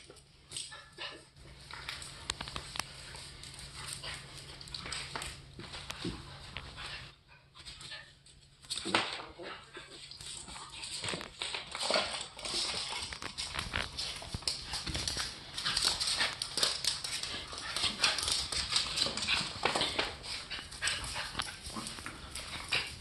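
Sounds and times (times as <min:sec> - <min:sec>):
dog claws scrabbling on hard floor: 0:01.5 - 0:07.0, 0:07.7 - 0:23.0.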